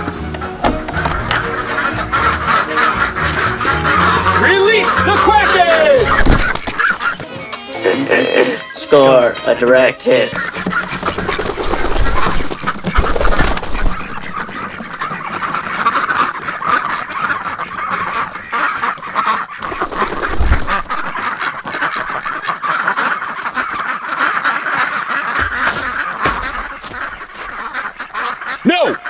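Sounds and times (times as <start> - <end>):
ducks and geese quacking: 0.0 - 29.0.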